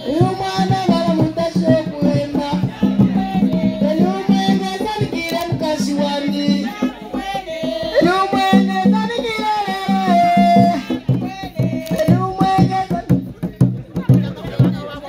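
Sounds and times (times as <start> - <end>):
women singing together: 0.0 - 13.2
hand drums beaten with palms: 0.0 - 15.0.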